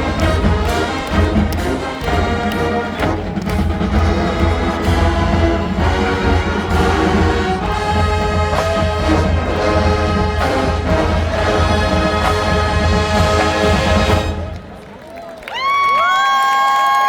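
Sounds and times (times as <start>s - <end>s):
drum and tuba pulse: 0.0s - 14.8s
marching band brass chords: 0.0s - 14.8s.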